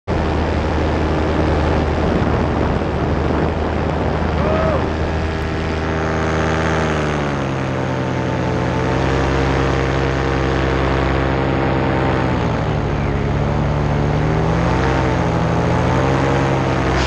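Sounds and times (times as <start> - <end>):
paramotor engine and propeller: 0.1 - 17.0.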